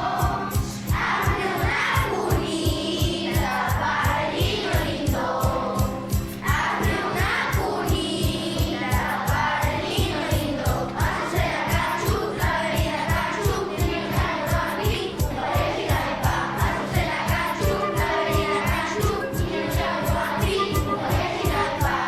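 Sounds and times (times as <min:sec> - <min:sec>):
song with voices over a beat: 0:00.0 - 0:22.0.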